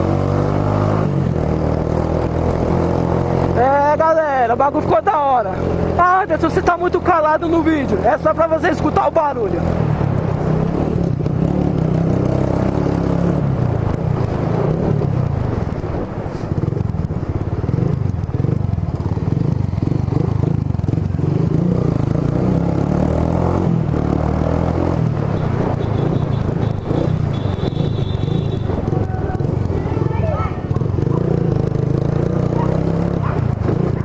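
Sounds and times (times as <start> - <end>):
motorcycle engine riding: 0.0 - 34.0.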